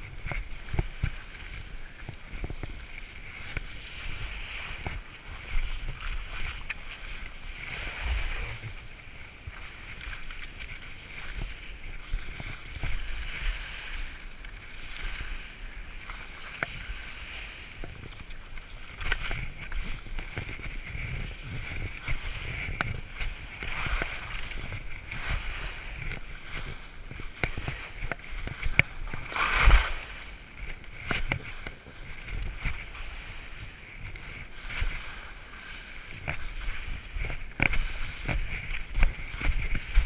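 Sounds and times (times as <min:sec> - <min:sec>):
skis scraping over snow: 0:00.0 - 0:40.0.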